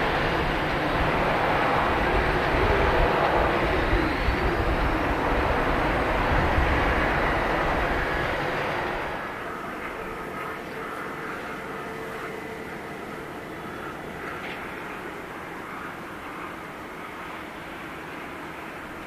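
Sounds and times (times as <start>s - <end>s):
faint rising whine: 0.0s - 19.0s
jet engines rushing: 0.0s - 19.0s.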